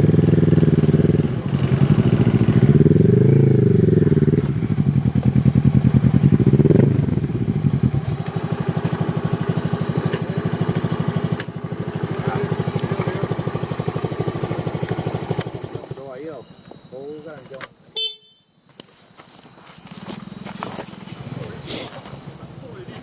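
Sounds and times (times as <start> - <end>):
motorcycle engine pulsing: 0.0 - 18.6, 19.6 - 23.0.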